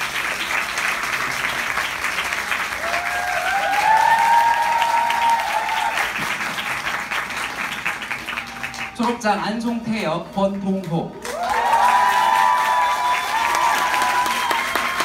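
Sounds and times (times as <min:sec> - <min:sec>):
audience applauding: 0:00.0 - 0:09.8, 0:10.8 - 0:15.0.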